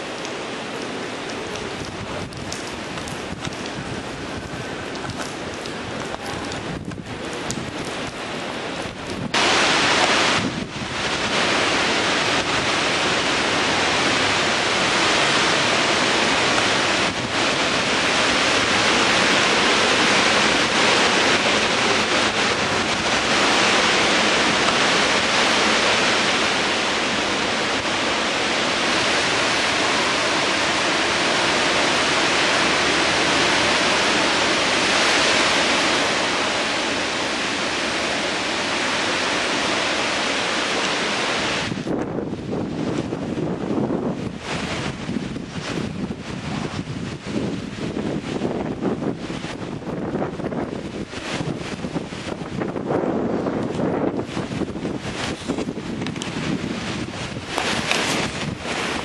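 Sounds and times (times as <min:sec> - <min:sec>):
rain falling: 0:00.0 - 0:59.0
wind buffeting microphone: 0:00.0 - 0:59.0.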